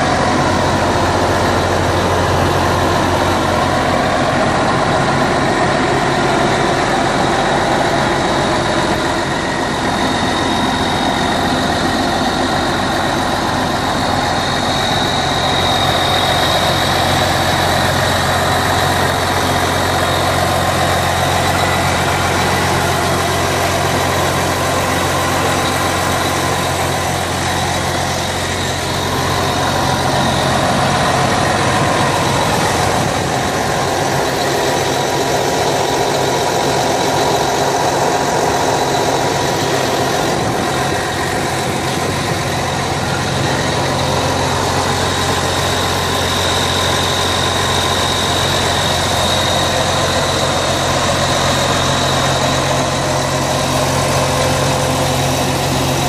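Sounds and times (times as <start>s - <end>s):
diesel tractor idling: 0.0s - 56.0s.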